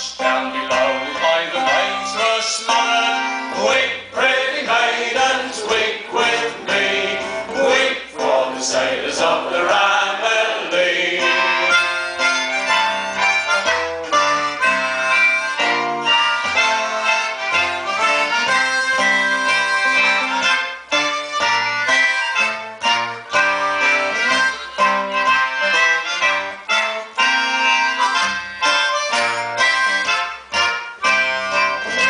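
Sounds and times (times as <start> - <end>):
acoustic folk band playing: 0.0 - 32.0.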